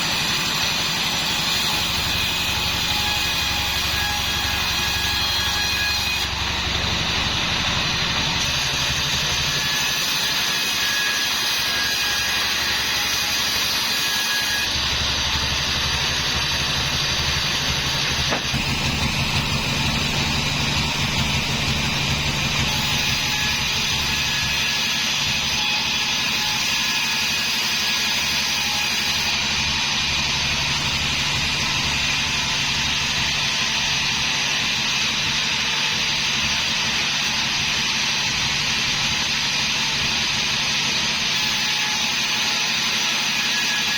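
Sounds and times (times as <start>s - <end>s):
band sawmill running: 0.0s - 43.9s.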